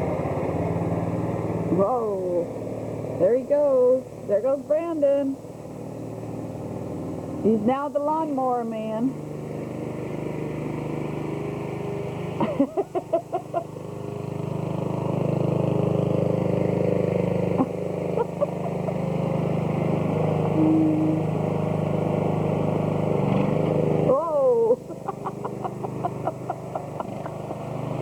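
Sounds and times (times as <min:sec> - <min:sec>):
riding lawn mower engine running: 0:00.0 - 0:28.0.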